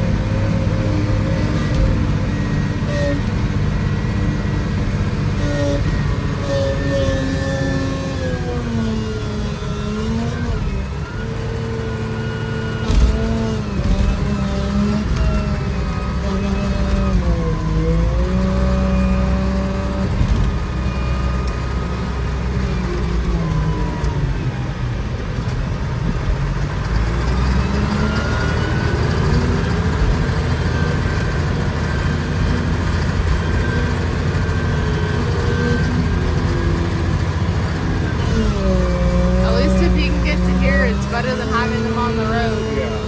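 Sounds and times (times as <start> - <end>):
engine running under load: 0.0 - 43.0.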